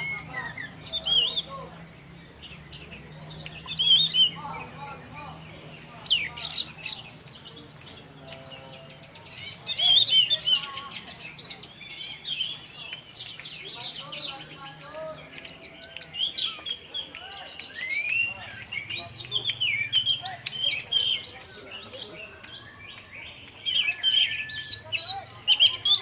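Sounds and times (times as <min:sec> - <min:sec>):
bird chirping and trilling: 0:00.0 - 0:26.0.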